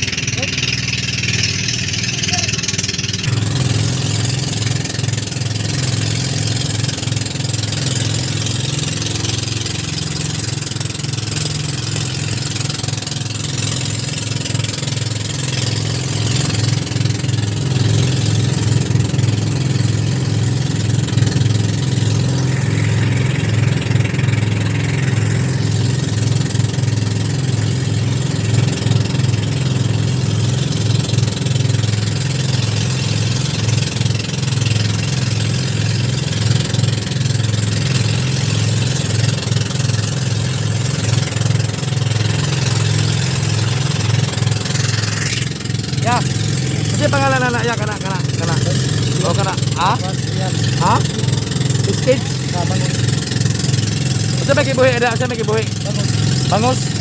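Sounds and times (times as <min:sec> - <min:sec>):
boat engine chugging: 0:00.0 - 0:57.0.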